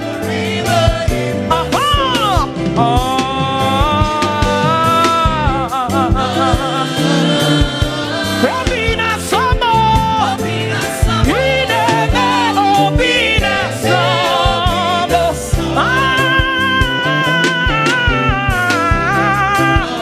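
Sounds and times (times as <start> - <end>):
band with drums and bass: 0.0 - 20.0
person singing gospel: 0.0 - 20.0.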